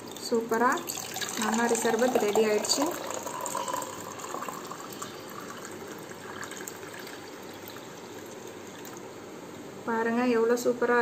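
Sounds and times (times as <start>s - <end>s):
drink pouring into glass: 0.0s - 9.1s.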